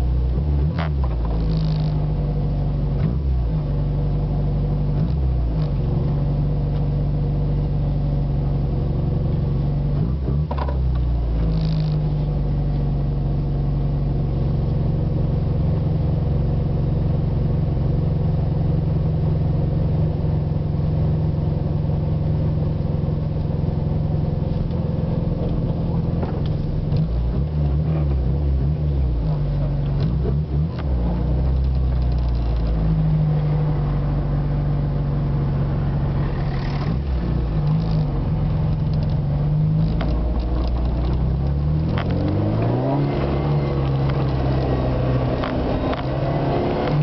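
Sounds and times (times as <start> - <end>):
car engine from inside cabin: 0.0 - 47.0.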